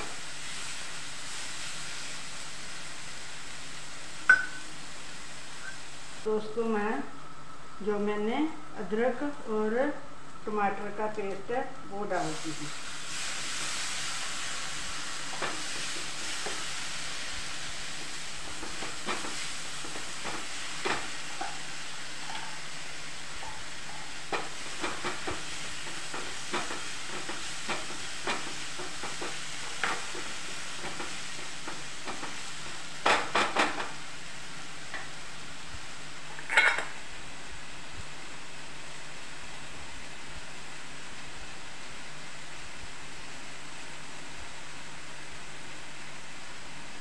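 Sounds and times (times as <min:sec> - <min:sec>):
paste sizzling in a hot pan: 0:00.0 - 0:07.8, 0:12.1 - 0:47.0.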